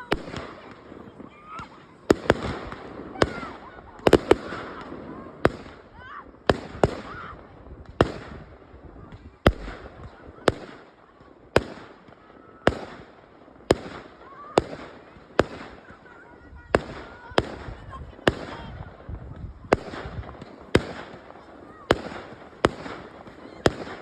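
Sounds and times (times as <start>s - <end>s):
firework crackling: 0.0s - 24.0s.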